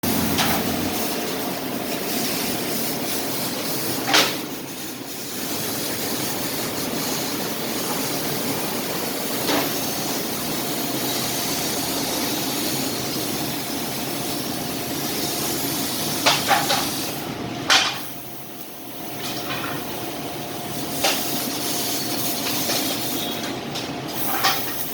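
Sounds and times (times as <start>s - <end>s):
laser cutter hissing: 0.0s - 24.9s.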